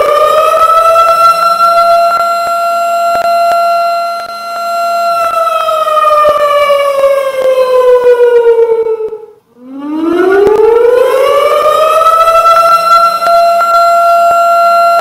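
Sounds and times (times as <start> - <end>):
alarm siren wailing: 0.0 - 15.0.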